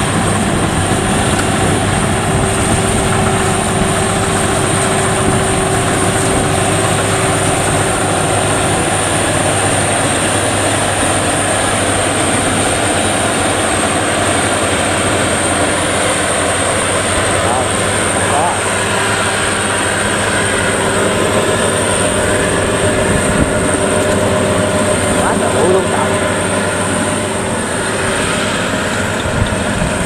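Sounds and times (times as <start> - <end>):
combine harvester running: 0.0 - 30.0
high mechanical whine: 0.0 - 30.0.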